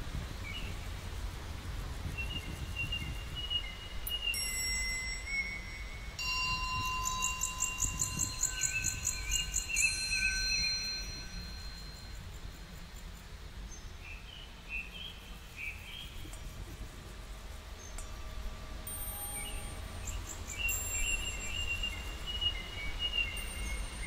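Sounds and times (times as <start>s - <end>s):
low outdoor rumble: 0.0s - 24.0s
small birds singing: 2.0s - 24.0s.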